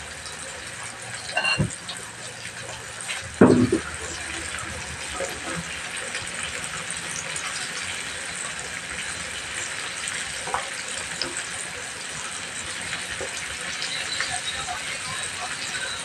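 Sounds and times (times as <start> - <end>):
chicken sizzling in oil: 0.0 - 16.0
oil popping and crackling: 0.0 - 16.0.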